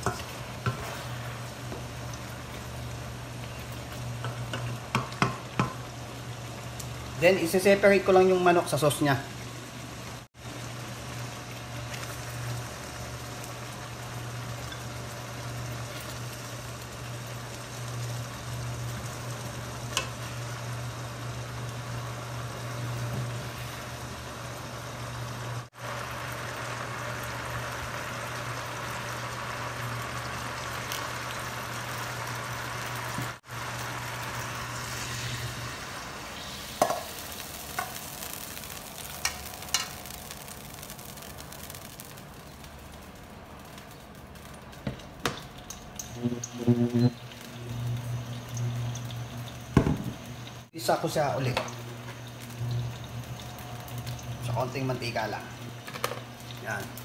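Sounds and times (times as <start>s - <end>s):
sauce bubbling and sizzling in a pan: 0.0s - 57.0s.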